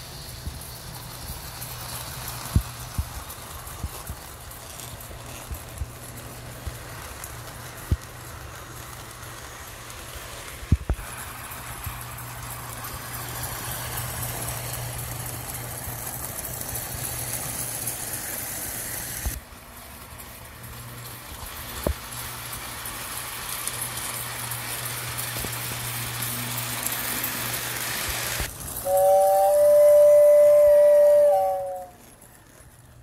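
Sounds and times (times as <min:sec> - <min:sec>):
model train motor hum: 0:00.0 - 0:33.0
wheels rattling on rails: 0:00.0 - 0:33.0.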